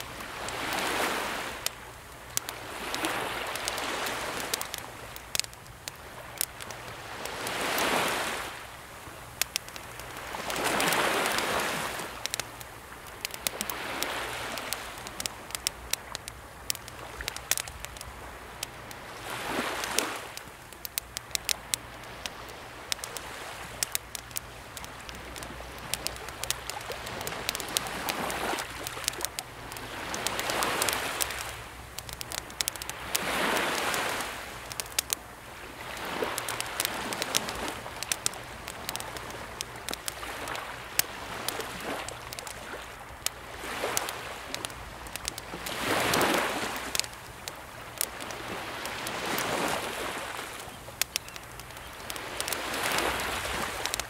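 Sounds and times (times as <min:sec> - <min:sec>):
campfire crackling and popping: 0:00.0 - 0:54.0
sea waves washing onto rocks: 0:00.0 - 0:54.0.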